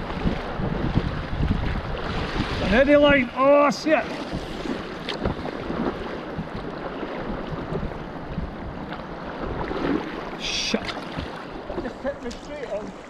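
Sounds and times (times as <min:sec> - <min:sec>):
wind on microphone: 0:00.0 - 0:11.8.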